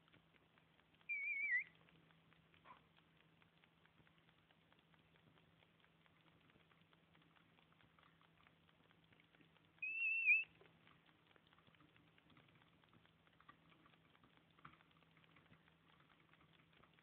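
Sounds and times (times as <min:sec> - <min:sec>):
faint low hum: 0:00.0 - 0:17.0
faint scattered ticking: 0:00.0 - 0:17.0.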